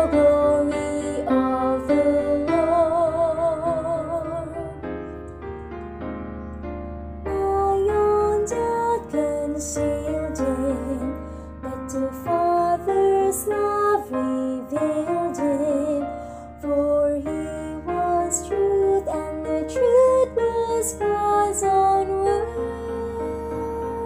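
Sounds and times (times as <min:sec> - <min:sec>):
person singing: 0:00.0 - 0:05.0, 0:07.3 - 0:24.0
keyboard accompaniment: 0:00.0 - 0:24.0.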